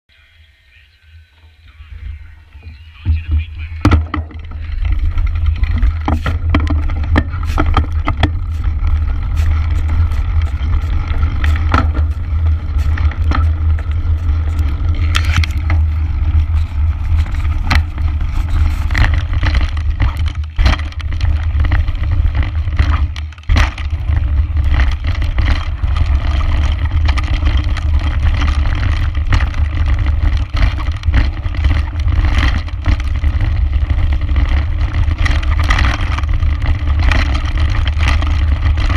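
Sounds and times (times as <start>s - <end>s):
tyres on gravel: 0.1s - 38.9s
wind rumble on microphone: 1.0s - 38.9s
bike knocking and rattling: 1.8s - 38.9s.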